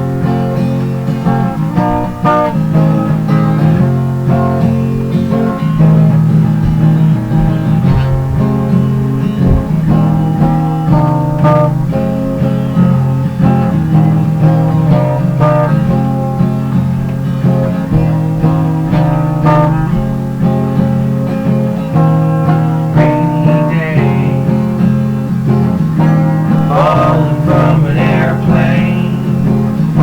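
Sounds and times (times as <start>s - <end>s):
guitar plucked and strummed: 0.0s - 30.0s
steady bass line: 0.0s - 30.0s.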